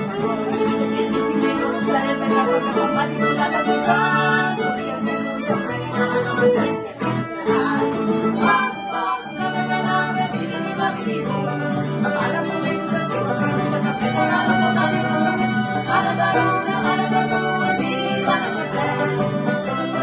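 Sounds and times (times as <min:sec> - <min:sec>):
bowed string melody: 0:00.0 - 0:20.0
plucked strings: 0:00.0 - 0:20.0.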